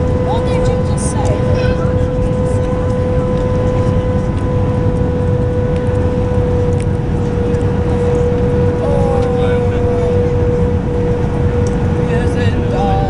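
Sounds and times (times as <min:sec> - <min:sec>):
airliner cabin rumble: 0:00.0 - 0:13.0
steady engine tone: 0:00.0 - 0:13.0.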